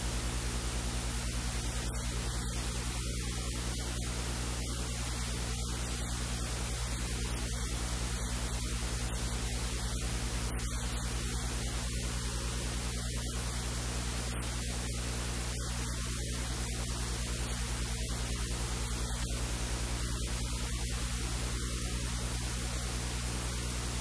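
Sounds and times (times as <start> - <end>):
electrical hiss: 0.0 - 24.0
low mains hum: 0.0 - 24.0.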